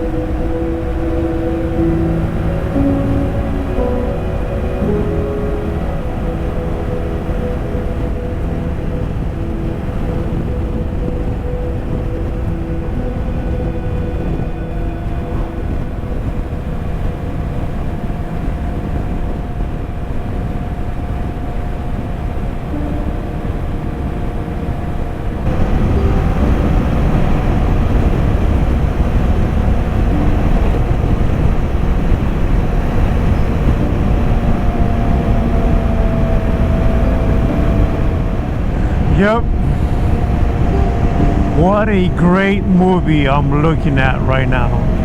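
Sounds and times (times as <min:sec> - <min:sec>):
wind rush: 0:00.0 - 0:45.0.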